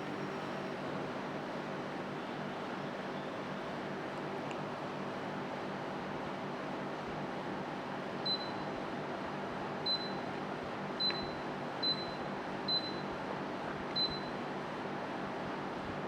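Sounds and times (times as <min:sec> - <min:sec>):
air conditioner fan hiss: 0:00.0 - 0:16.0.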